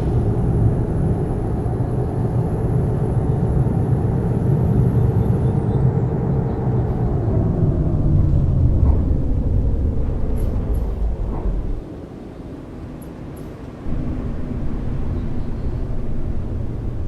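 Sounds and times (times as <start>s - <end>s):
diesel engine rumble: 0.0s - 17.0s
road noise: 0.0s - 17.0s.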